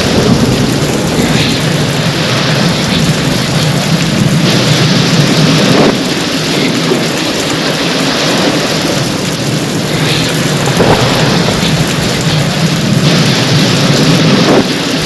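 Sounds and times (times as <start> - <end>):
constant low rumble: 0.0 - 15.0
rain falling: 0.0 - 15.0.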